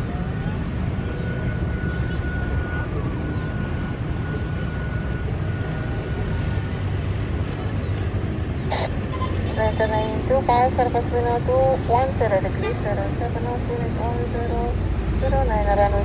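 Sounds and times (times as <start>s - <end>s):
jet airliner engine: 0.0s - 16.0s
motorbike engines rumbling: 0.0s - 16.0s.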